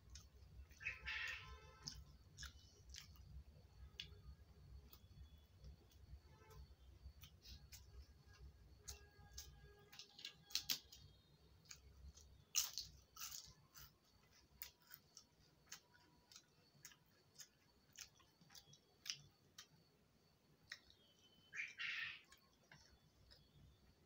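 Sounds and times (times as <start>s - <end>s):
faint close-up chewing: 0.0s - 0.8s, 1.8s - 21.2s, 22.2s - 24.0s.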